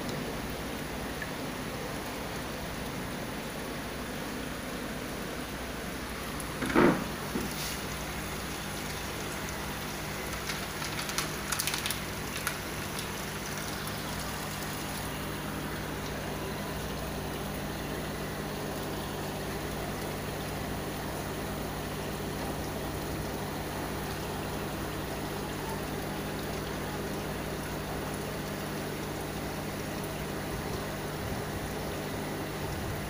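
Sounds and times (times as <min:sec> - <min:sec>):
aquarium pump hum: 0:00.0 - 0:33.0
circulating water: 0:00.0 - 0:33.0.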